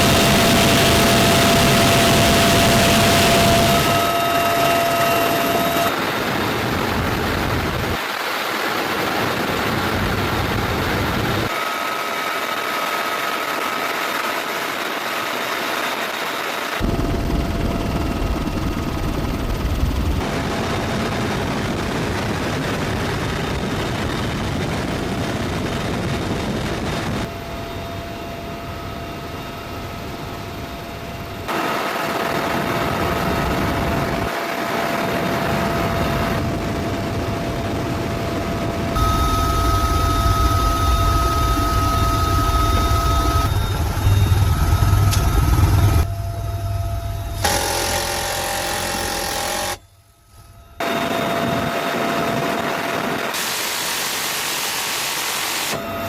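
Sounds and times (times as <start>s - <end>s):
loud mechanical running noise: 0.0s - 8.0s, 16.8s - 56.0s.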